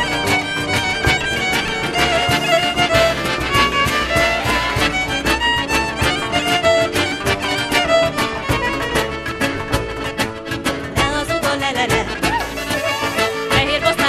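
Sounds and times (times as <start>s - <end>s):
fiddle melody: 0.0s - 14.0s
struck strings accompaniment: 0.0s - 14.0s.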